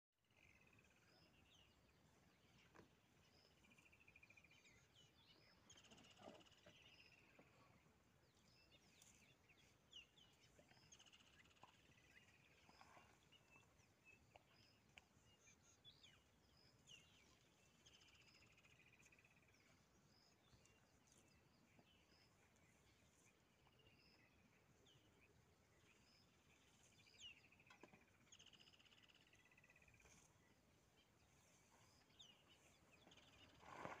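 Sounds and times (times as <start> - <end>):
faint bird chirps and trills: 0.2 - 34.0.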